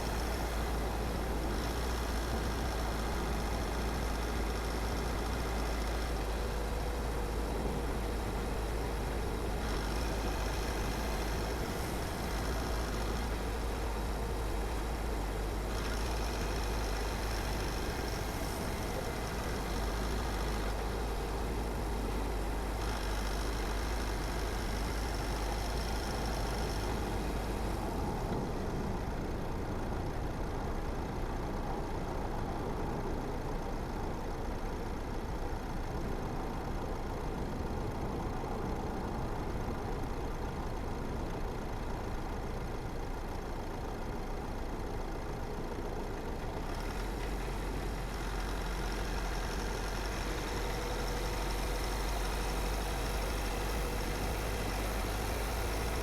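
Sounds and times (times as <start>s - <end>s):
car engine hum: 0.0s - 56.0s.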